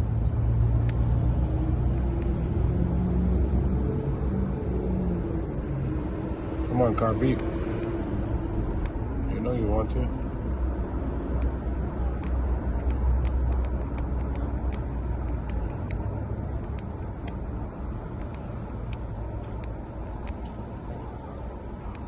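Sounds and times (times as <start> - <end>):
low vehicle rumble: 0.0 - 22.0
steady traffic noise: 0.0 - 22.0.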